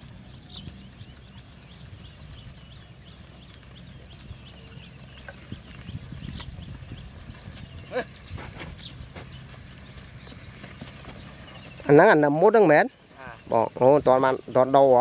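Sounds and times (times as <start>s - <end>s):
hooves and gear knocking: 0.0s - 15.0s
small birds chirping: 0.0s - 15.0s.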